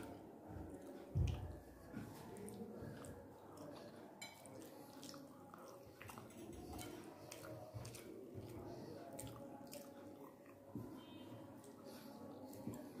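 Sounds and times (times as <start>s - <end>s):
chewing and mouth sounds: 0.7s - 13.0s.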